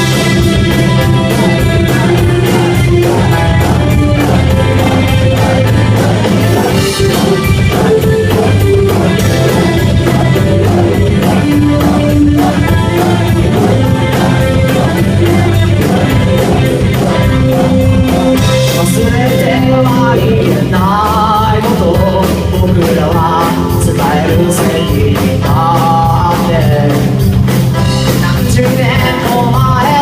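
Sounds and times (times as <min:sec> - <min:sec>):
rock band playing: 0:00.0 - 0:30.0
steady drum beat: 0:00.0 - 0:30.0.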